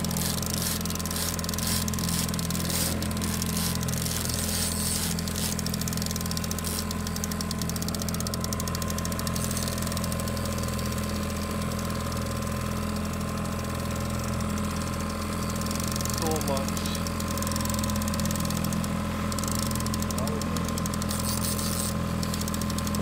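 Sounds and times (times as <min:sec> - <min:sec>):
outboard motor idling: 0:00.0 - 0:23.0
rapid fine ticking: 0:00.0 - 0:23.0.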